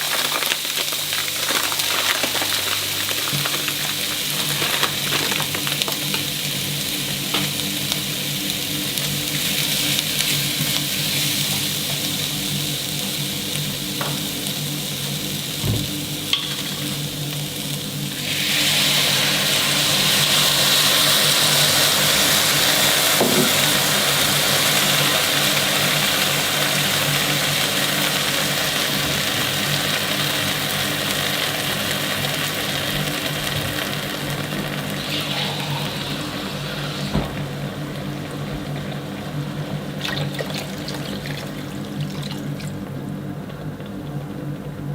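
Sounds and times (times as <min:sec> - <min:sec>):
food sizzling in a pan: 0:00.0 - 0:44.0.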